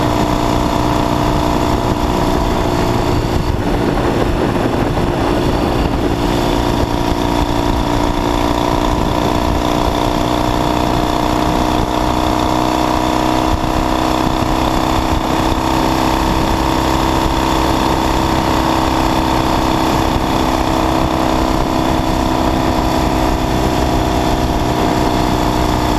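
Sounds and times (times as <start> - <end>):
motorcycle engine cruising: 0.0 - 25.9.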